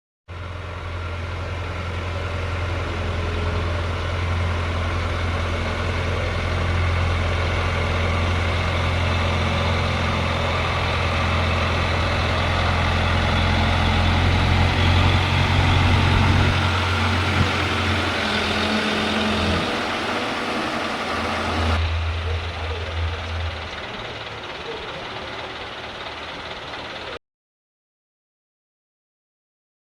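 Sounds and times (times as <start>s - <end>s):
crane engine humming: 0.3s - 27.2s.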